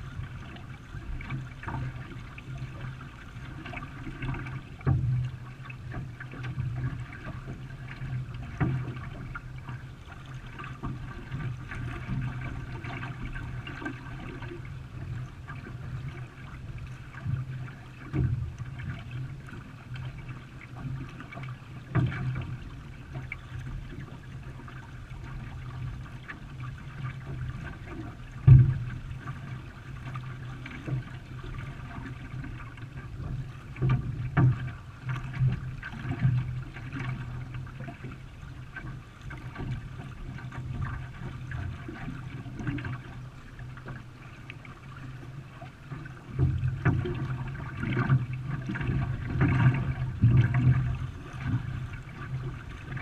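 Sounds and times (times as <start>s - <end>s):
paddles splashing water: 0.0s - 53.0s.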